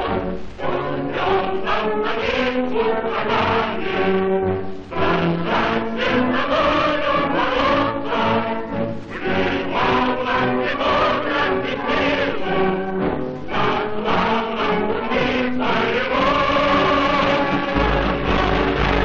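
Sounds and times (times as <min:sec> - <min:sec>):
choir singing: 0:00.0 - 0:19.0
musical accompaniment: 0:00.0 - 0:19.0.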